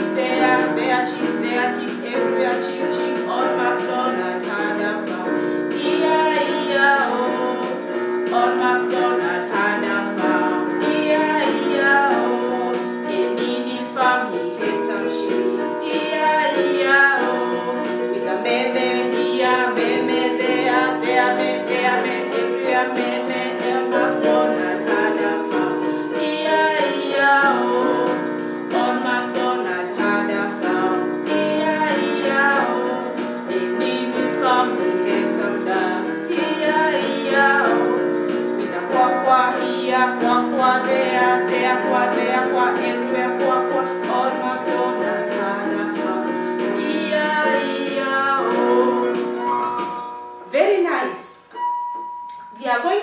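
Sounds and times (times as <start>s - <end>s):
woman singing children's song: 0.0s - 51.5s, 52.4s - 53.0s
instrumental backing music: 0.0s - 53.0s.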